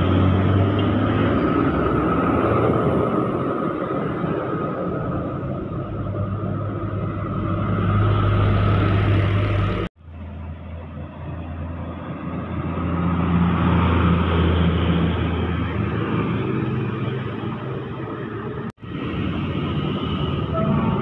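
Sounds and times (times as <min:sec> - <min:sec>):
diesel trucks passing: 0:00.0 - 0:21.0
road traffic noise: 0:00.0 - 0:21.0.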